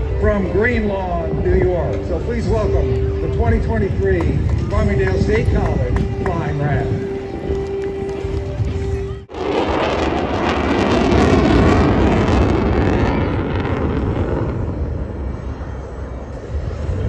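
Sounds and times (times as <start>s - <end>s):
jet aircraft roaring past: 0.0s - 17.0s.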